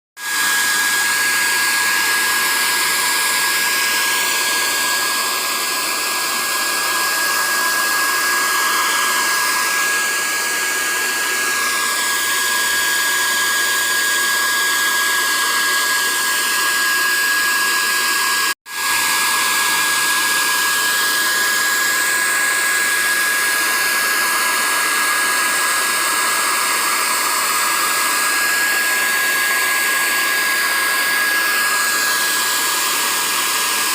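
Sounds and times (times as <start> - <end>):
whirring blower with whine: 0.2 - 33.9.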